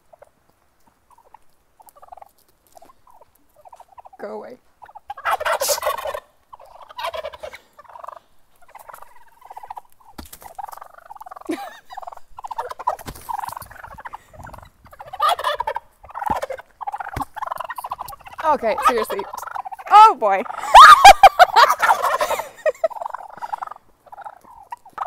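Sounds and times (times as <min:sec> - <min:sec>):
wild turkeys gobbling: 0:00.0 - 0:25.0.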